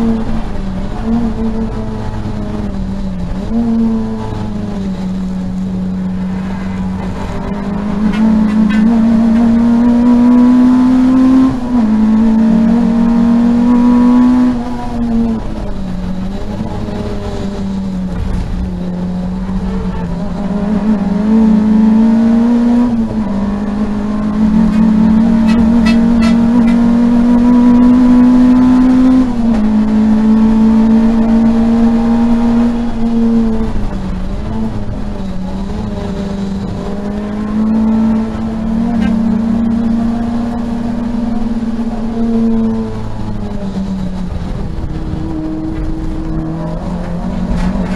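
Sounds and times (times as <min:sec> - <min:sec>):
car engine revving from inside cabin: 0:00.0 - 0:47.9.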